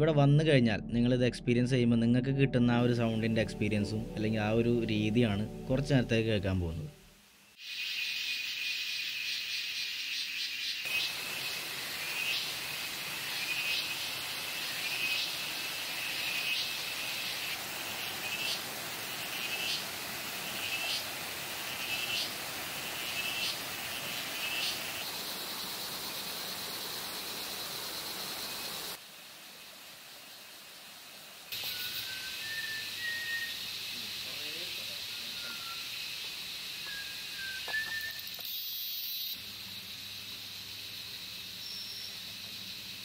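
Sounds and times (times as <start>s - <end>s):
steady hiss: 6.2s - 43.0s
insect chirp: 7.2s - 43.0s
high insect drone: 7.6s - 43.0s.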